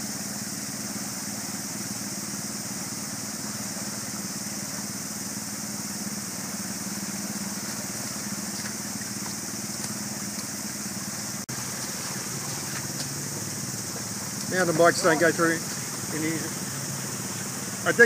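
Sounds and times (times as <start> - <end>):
motorcycle engine idling: 0.0 - 18.0
stream water rushing: 0.0 - 18.0.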